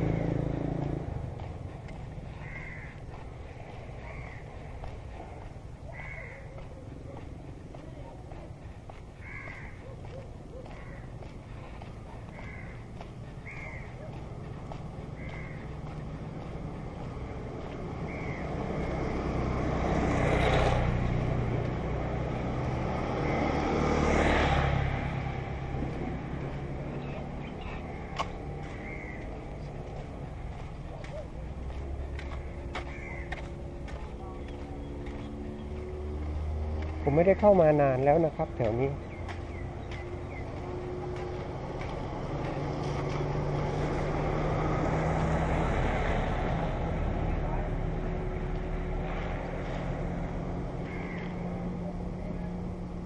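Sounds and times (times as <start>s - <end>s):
road noise: 0.0s - 53.0s
vehicle engine droning: 0.0s - 53.0s.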